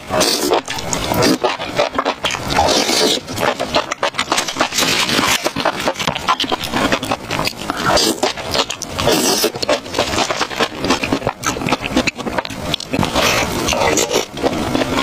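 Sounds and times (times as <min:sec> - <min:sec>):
wet chewing and slurping: 0:00.0 - 0:15.0.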